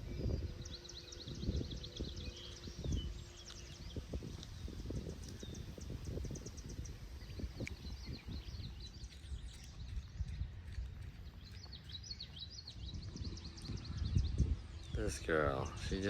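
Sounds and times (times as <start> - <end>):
low rumble: 0.0 - 16.0
songbirds chirping: 0.0 - 16.0.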